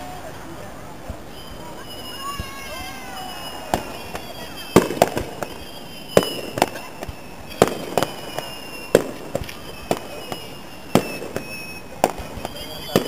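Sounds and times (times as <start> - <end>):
fireworks bursting: 0.9 - 13.0.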